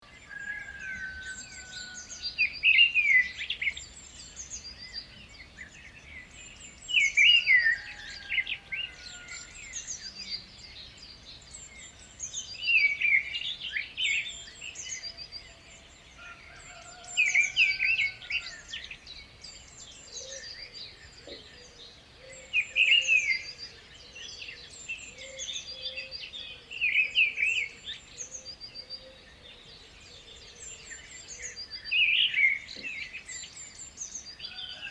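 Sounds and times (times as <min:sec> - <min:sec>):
loud bird song phrase: 0:00.0 - 0:34.9
birds chirping: 0:00.3 - 0:34.9.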